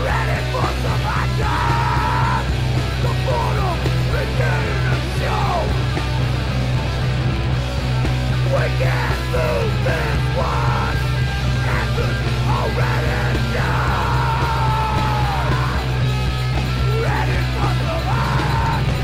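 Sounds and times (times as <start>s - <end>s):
yelled vocal: 0.0s - 6.3s, 8.3s - 19.0s
droning bass: 0.0s - 19.0s
loud punk music: 0.0s - 19.0s.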